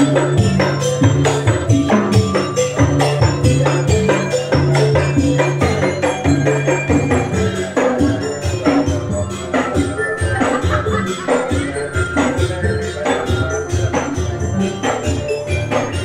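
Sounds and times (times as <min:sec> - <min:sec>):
drums playing fast: 0:00.0 - 0:16.0.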